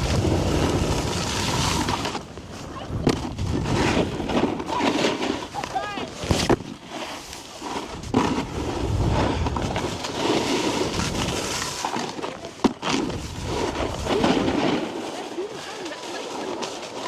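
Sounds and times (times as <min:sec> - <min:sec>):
snowboard scraping on snow: 0:00.0 - 0:17.0.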